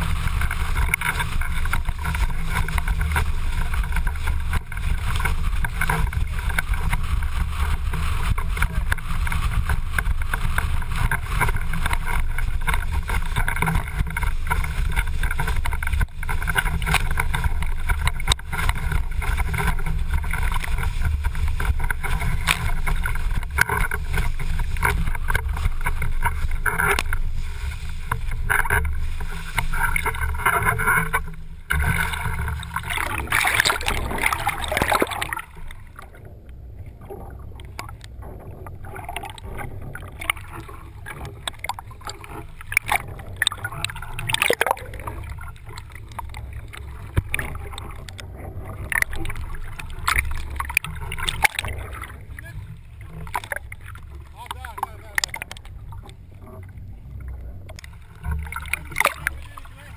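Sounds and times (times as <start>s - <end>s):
low rumble: 0.0s - 59.9s
rush of wind and water: 0.0s - 59.9s.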